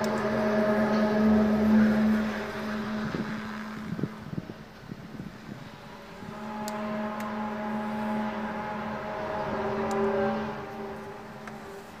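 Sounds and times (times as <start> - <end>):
eerie drone of steady tones: 0.0 - 12.0.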